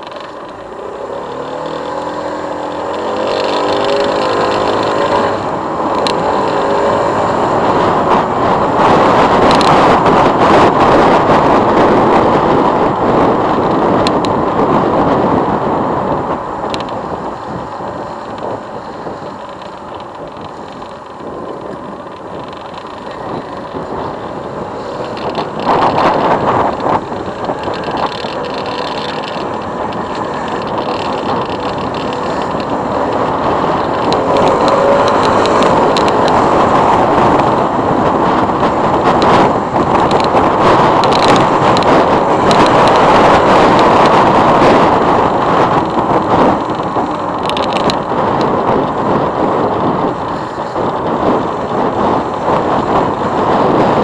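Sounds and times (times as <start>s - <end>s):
motorcycle road noise: 0.0s - 54.0s
wind noise: 0.0s - 54.0s.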